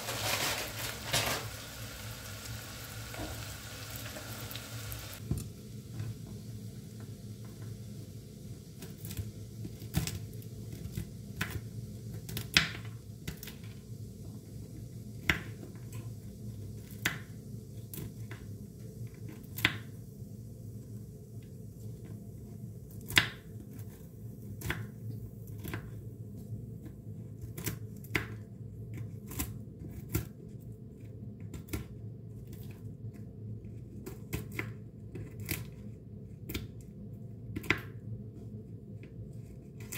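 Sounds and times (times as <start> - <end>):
low background hum: 0.0 - 39.9.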